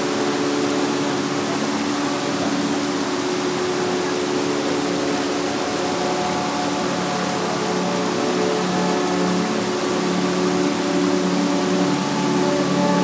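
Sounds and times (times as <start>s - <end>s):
stream water flowing and gurgling: 0.0s - 13.0s.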